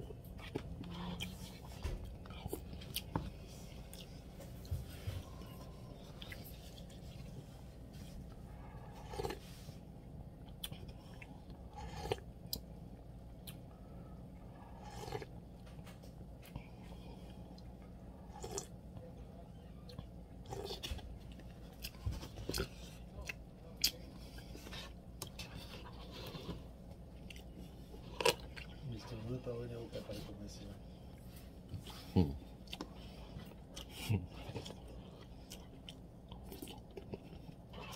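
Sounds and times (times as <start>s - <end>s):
person chewing: 0.0s - 7.4s, 8.2s - 9.5s, 10.3s - 19.1s, 19.9s - 29.2s, 31.2s - 37.9s
steady low hum: 0.0s - 37.9s.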